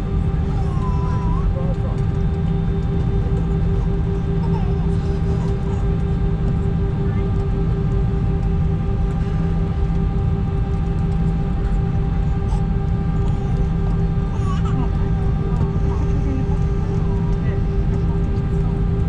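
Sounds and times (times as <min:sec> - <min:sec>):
airplane cabin engine drone: 0:00.0 - 0:19.0
constant hum: 0:00.0 - 0:19.0.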